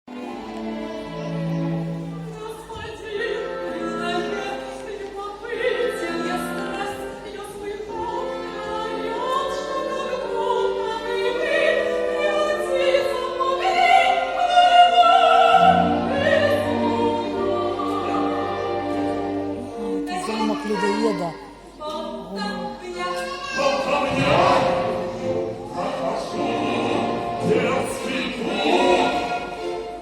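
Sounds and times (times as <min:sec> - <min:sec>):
orchestral strings: 0:00.1 - 0:30.0
opera singing: 0:00.2 - 0:30.0.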